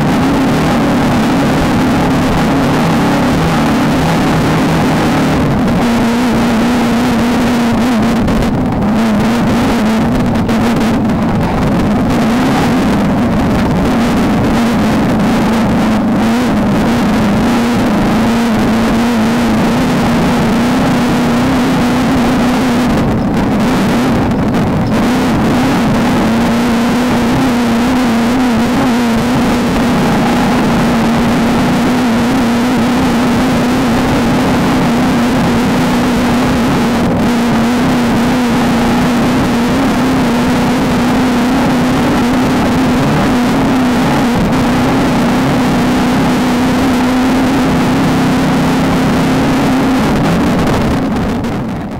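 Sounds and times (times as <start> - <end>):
constant rushing noise: 0.0 - 51.9
race car engine at high revs: 0.0 - 51.9.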